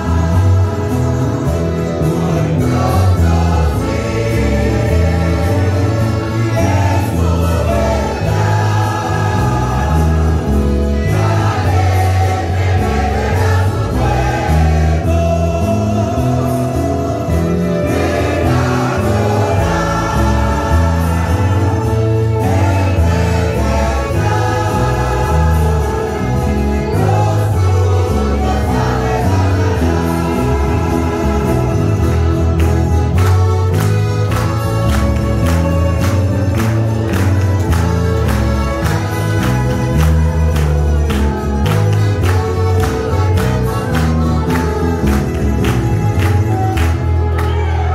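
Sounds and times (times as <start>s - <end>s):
accordion: 0.0s - 47.9s
choir singing a hymn: 0.0s - 47.9s
mandolins and guitars: 0.0s - 47.9s
saxophone: 0.0s - 47.9s.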